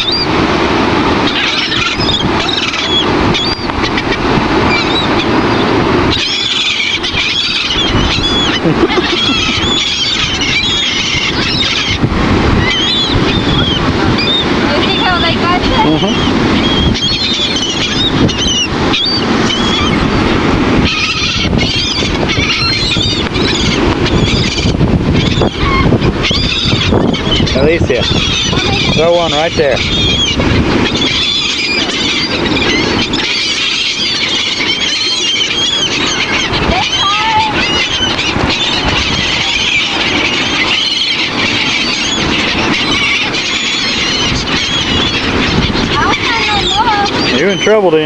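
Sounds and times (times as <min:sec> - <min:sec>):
gulls calling: 0:00.0 - 0:48.0
wind rushing on microphone: 0:00.0 - 0:48.0.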